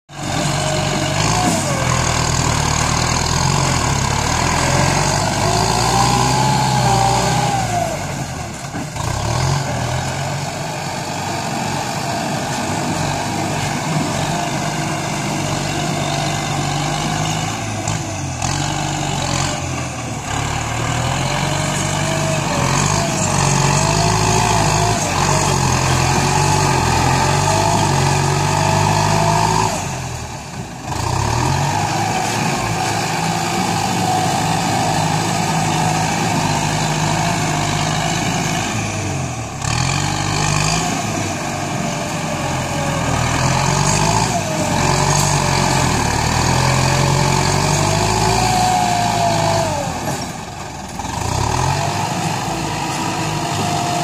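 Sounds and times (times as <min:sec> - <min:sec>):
tractor diesel engine under load: 0:00.1 - 0:54.0.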